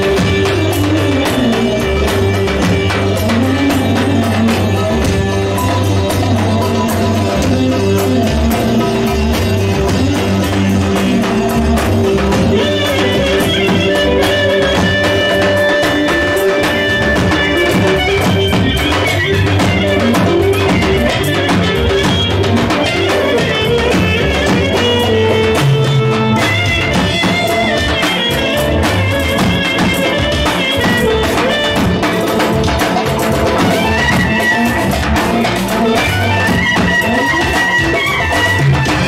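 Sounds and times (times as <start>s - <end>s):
steady drum beat: 0.0s - 39.0s.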